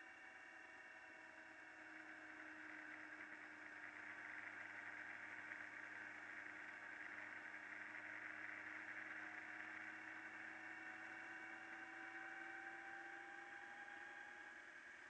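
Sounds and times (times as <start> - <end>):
motorcycle engine hum: 0.6 - 14.3.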